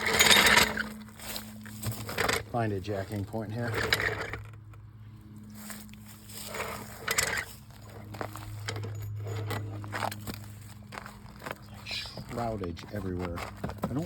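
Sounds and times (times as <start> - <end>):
hands handling car parts: 0.0 - 4.9, 5.5 - 14.0
low hum: 0.0 - 13.8.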